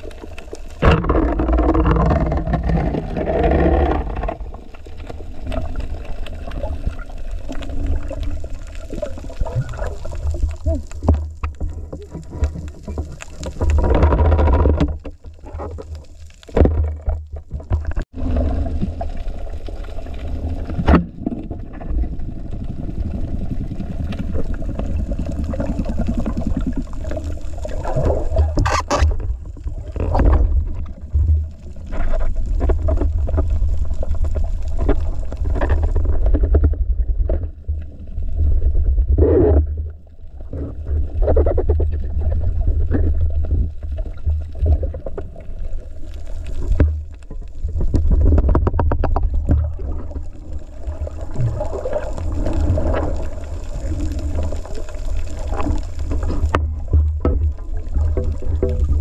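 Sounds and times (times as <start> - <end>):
underwater rumble of water: 0.0 - 59.0.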